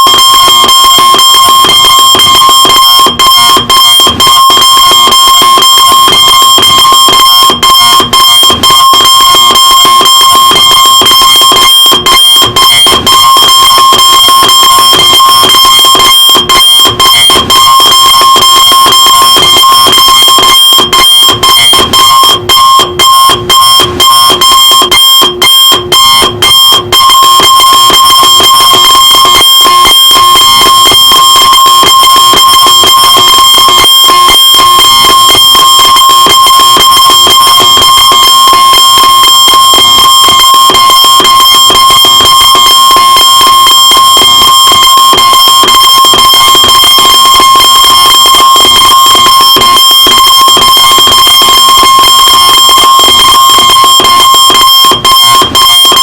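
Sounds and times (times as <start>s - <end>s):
electronic alarm clock tone: 0.0s - 56.0s.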